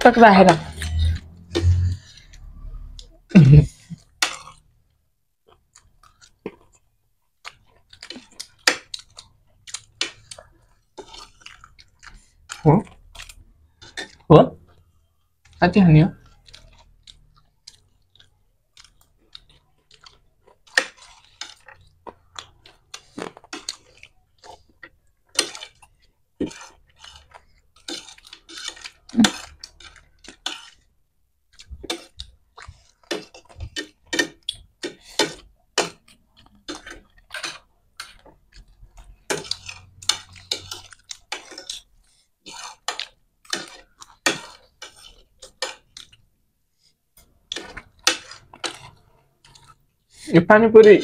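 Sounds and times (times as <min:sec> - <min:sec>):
crunching and chewing: 0:00.6 - 0:04.8, 0:05.4 - 0:46.2, 0:47.2 - 0:50.3.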